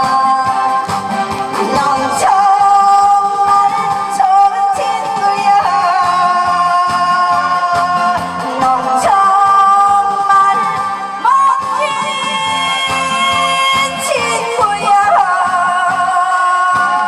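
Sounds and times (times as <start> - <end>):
backing music with steady beat: 0.0 - 17.0
woman singing into a microphone: 0.0 - 17.0.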